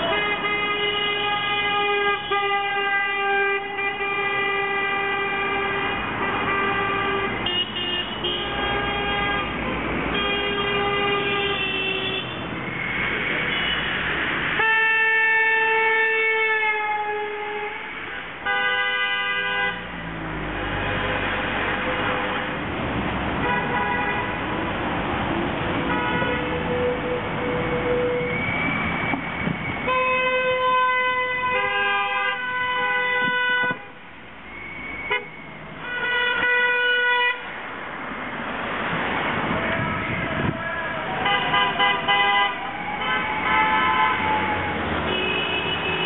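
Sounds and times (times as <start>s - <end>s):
car horns honking: 0.0s - 20.0s, 23.4s - 24.4s, 25.8s - 37.5s, 39.7s - 46.0s
traffic noise: 0.0s - 46.0s.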